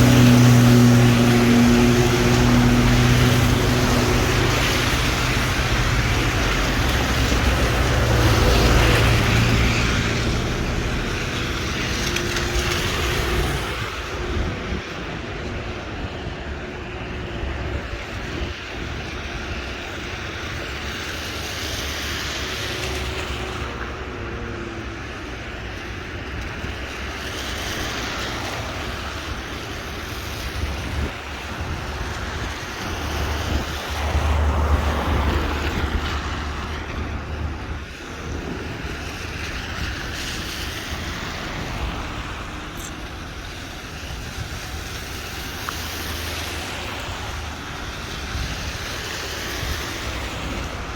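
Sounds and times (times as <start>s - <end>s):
rain: 0.0s - 50.9s
wind buffeting microphone: 0.0s - 50.9s.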